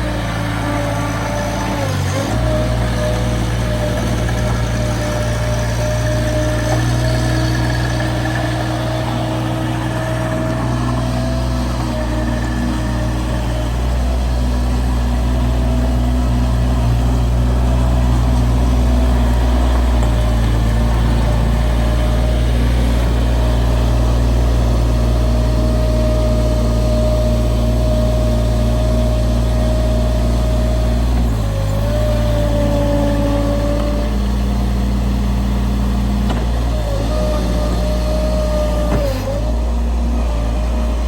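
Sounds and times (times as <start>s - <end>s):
heavy equipment engine under load: 0.0s - 41.0s.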